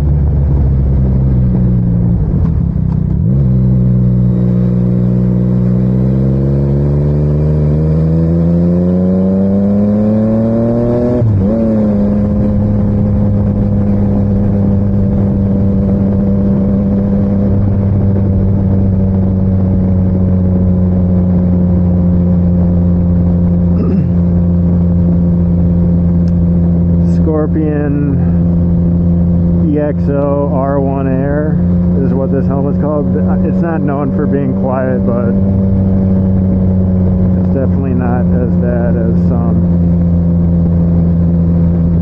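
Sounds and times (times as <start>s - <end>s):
motorcycle engine accelerating: 0.0s - 42.0s
wind rumble: 0.0s - 42.0s.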